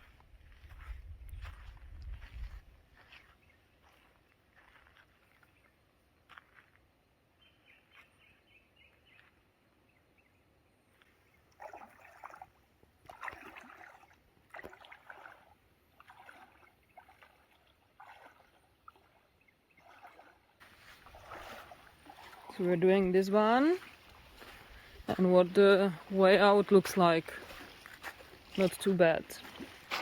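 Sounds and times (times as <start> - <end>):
faint creek water splashing: 0.0 - 9.9, 10.8 - 30.0.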